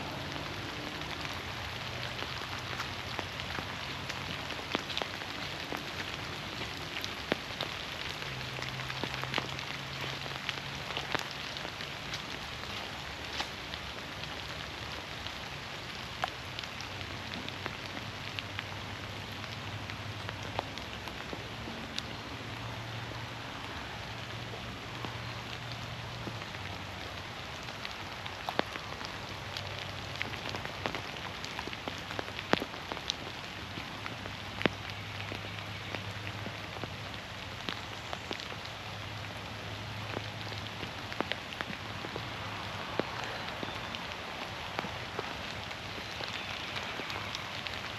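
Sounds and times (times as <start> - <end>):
steady rain in forest: 0.0 - 47.9
close raindrop taps: 0.2 - 47.9.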